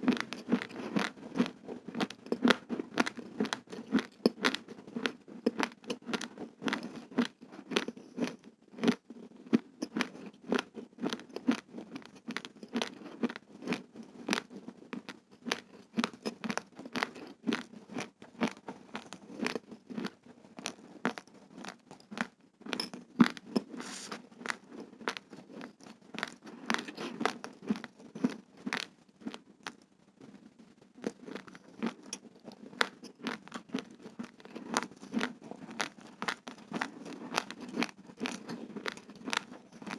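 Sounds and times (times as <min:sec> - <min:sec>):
raw rice being chewed: 0:00.0 - 0:29.8, 0:31.0 - 0:39.9.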